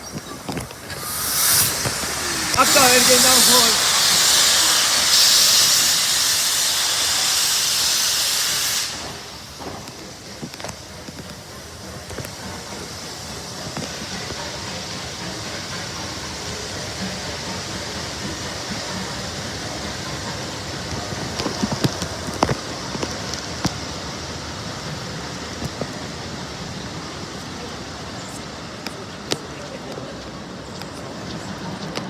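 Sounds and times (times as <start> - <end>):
steam locomotive hissing: 0.0 - 32.0.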